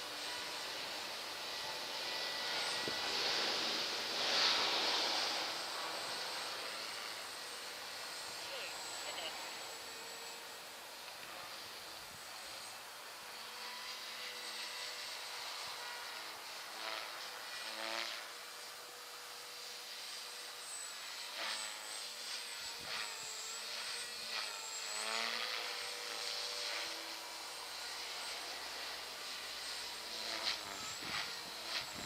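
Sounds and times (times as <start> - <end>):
rc helicopter motor and rotor whine: 0.0 - 32.0.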